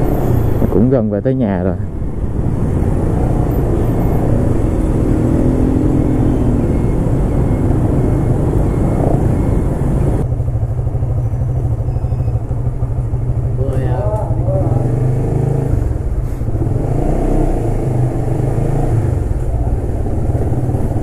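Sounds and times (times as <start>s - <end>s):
heavy low rumble: 0.0s - 17.0s
road noise: 0.0s - 21.0s
motorcycle engine: 1.9s - 21.0s.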